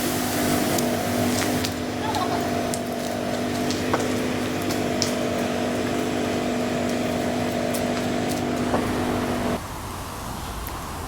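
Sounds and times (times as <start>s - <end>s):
power tool motor whining: 0.0s - 9.6s.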